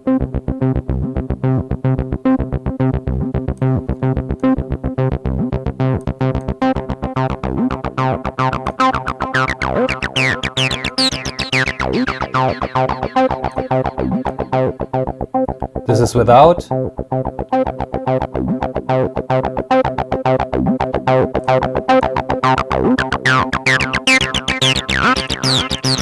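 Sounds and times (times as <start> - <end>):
distorted acid bassline: 0.0 - 26.0.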